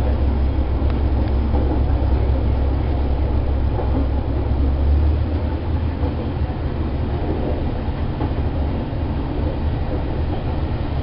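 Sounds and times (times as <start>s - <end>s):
diesel engine drone: 0.0s - 11.0s
train wheels rumbling on rails: 0.0s - 11.0s.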